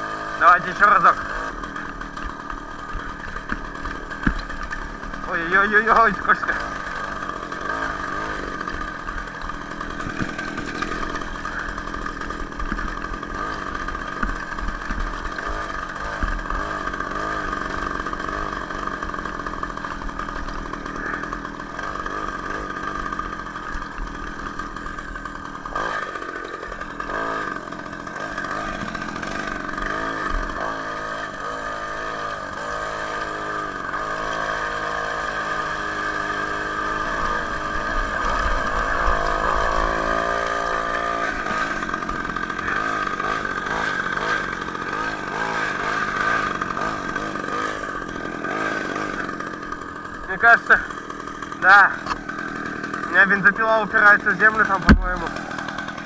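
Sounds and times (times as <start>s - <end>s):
two-stroke moped engine revving: 0.0s - 56.0s.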